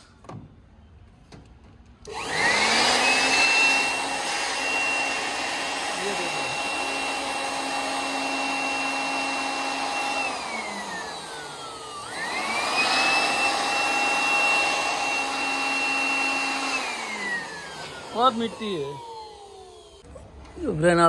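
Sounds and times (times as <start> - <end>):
electric blower motor whining: 2.0 - 20.0.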